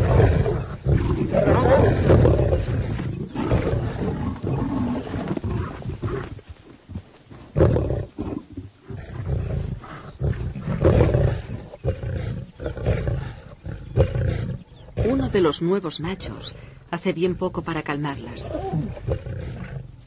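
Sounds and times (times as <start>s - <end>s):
lionesses snarling and growling: 0.0s - 20.0s.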